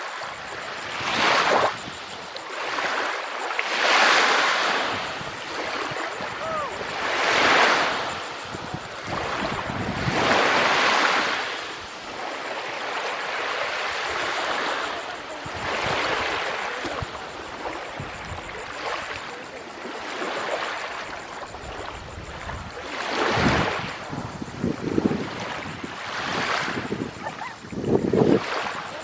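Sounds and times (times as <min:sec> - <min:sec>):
waves washing onto shore: 0:00.0 - 0:29.0.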